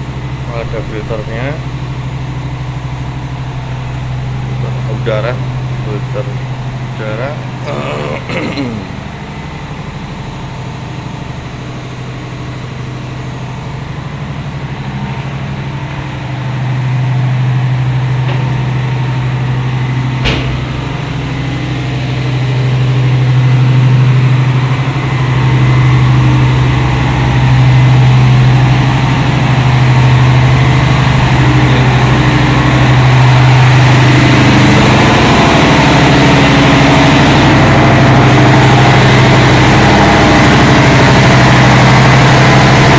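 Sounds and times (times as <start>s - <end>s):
diesel machinery droning: 0.0s - 42.9s.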